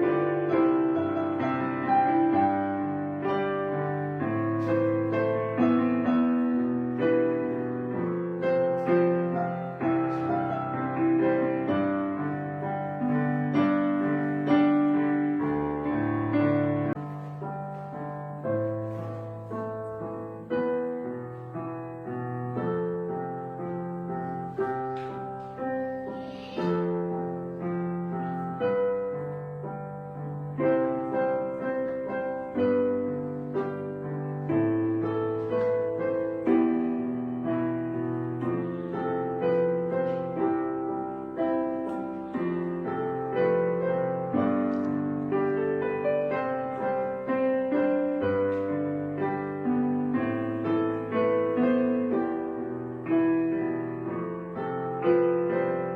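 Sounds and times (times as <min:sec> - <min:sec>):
slow gentle piano chords: 0:00.0 - 0:55.9.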